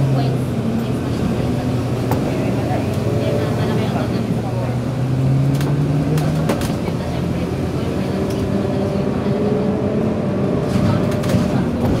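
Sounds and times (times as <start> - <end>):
vehicle engine hum and road noise: 0.0 - 12.0.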